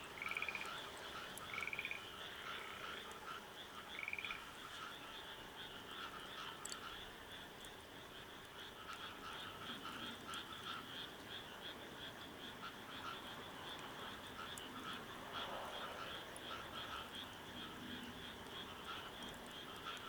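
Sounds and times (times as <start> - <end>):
frogs croaking: 0.0 - 20.0.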